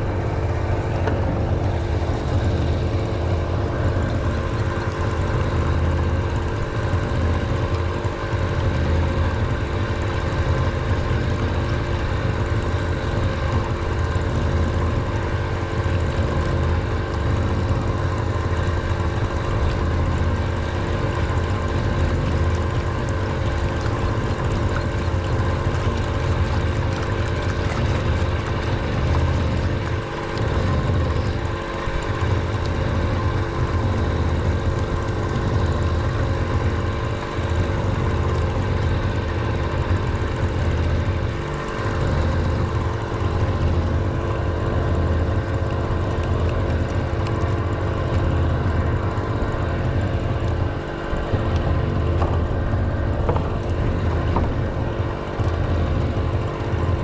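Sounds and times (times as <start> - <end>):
engine droning steadily: 0.0 - 57.0.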